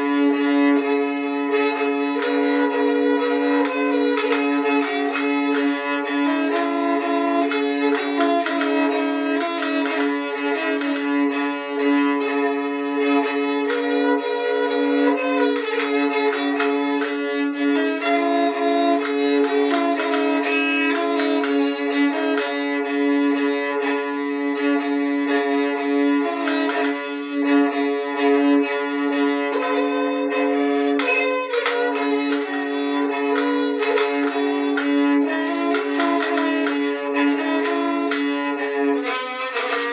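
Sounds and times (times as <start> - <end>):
bowed keyed fiddle melody: 0.0 - 39.9.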